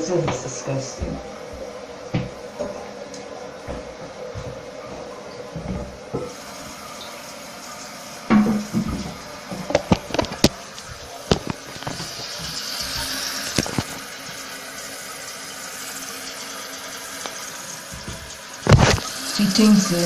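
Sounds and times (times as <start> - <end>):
water running in toilet tank: 0.0 - 20.0.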